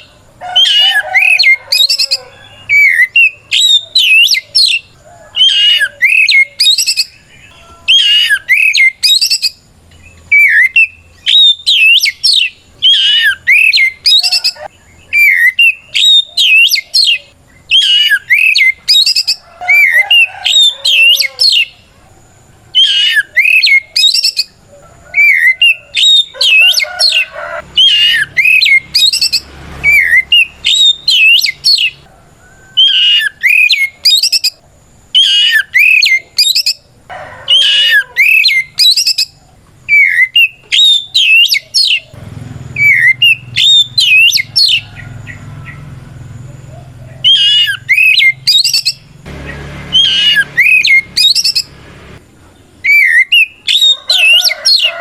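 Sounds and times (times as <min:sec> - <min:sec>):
bird singing whistled notes: 0:00.0 - 0:21.8, 0:22.8 - 0:26.9, 0:27.8 - 0:32.0, 0:32.7 - 0:36.9, 0:37.5 - 0:42.1, 0:42.7 - 0:45.8, 0:47.2 - 0:49.1, 0:49.9 - 0:51.7, 0:52.8 - 0:54.9.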